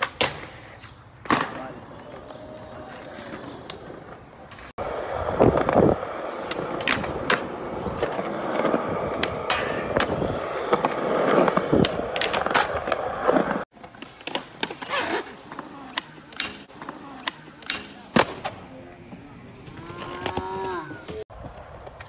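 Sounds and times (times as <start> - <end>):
skateboard wheels rolling on concrete: 0.0 - 22.0.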